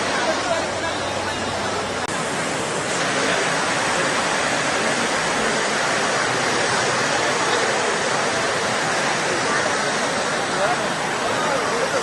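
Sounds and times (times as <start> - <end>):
floodwater rushing through drain: 0.0 - 12.0.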